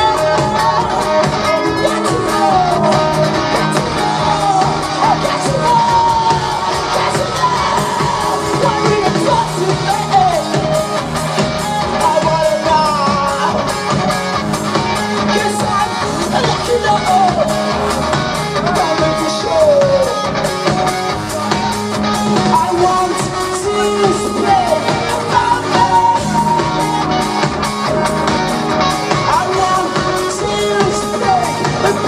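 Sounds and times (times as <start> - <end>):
live rock band playing: 0.0 - 32.0
person singing: 0.0 - 32.0.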